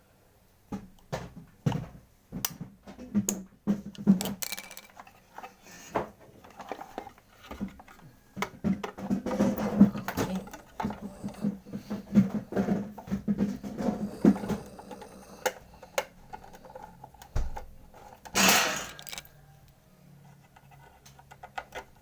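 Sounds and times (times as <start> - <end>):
clicks and knocks of hands working: 0.7 - 19.8, 20.4 - 22.0.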